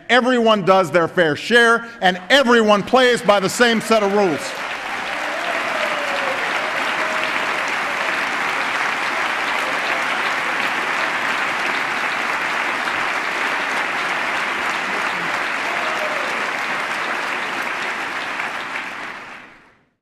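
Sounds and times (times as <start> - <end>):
large audience applauding: 3.4 - 19.9.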